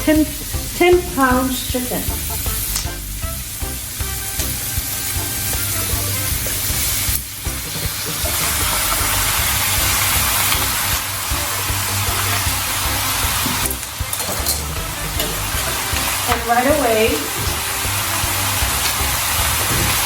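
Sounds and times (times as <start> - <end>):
chicken frying in hot oil: 0.0 - 20.0.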